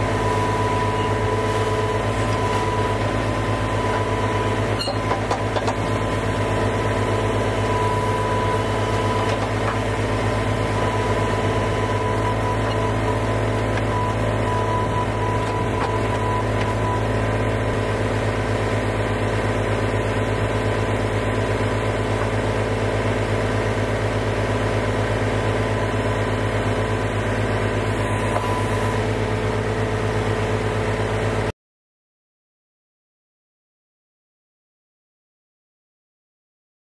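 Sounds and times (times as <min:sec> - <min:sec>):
engine humming steadily: 0:00.0 - 0:31.5.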